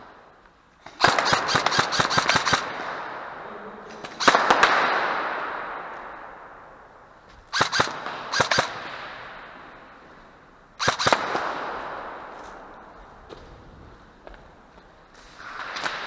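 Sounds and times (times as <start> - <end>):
airsoft gunshots echoing in a hall: 0.0 - 13.4, 14.0 - 16.0.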